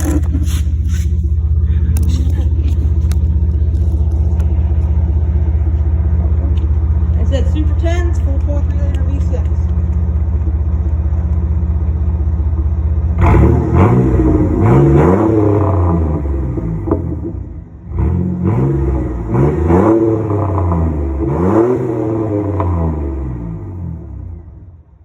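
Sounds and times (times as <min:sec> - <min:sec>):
engine idling and revving: 0:00.0 - 0:25.0.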